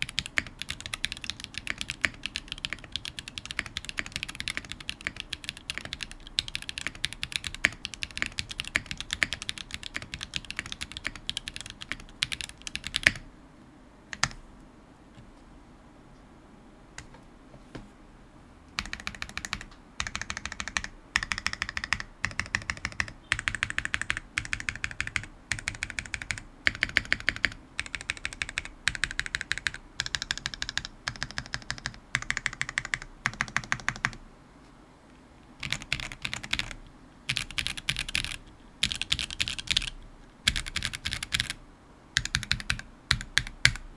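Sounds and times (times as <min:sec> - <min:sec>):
mechanical keyboard typing: 0:00.0 - 0:13.2, 0:14.1 - 0:14.4, 0:18.8 - 0:34.2, 0:35.6 - 0:41.6, 0:42.2 - 0:43.9.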